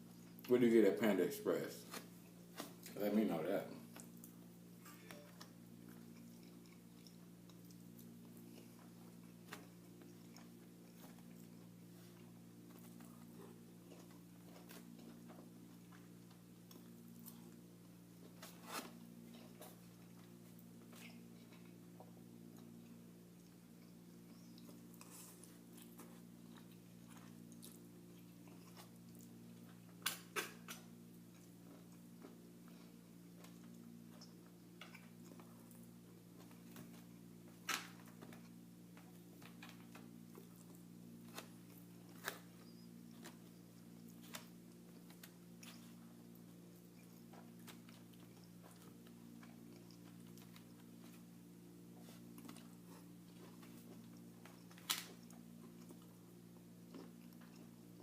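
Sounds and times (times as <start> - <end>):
person chewing food: 0.0 - 0.5, 3.8 - 58.0
steady low hum: 0.0 - 58.0.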